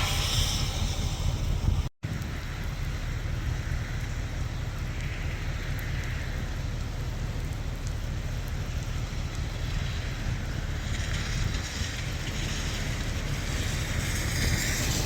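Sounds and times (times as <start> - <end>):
heavy rain falling: 0.0 - 15.0
low wind rumble: 0.0 - 15.0.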